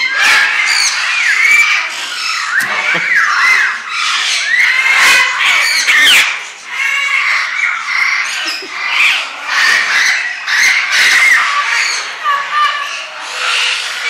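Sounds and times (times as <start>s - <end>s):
many birds squawking: 0.0s - 14.0s.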